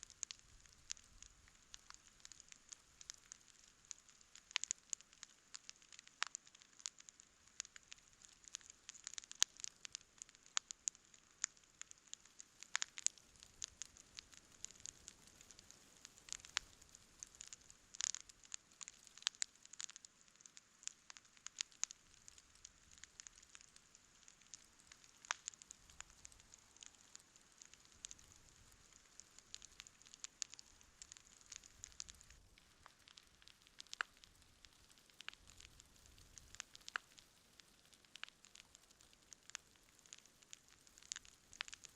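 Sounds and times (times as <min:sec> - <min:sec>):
campfire popping and crackling: 0:00.0 - 0:41.9
faint steady hiss: 0:00.0 - 0:41.9.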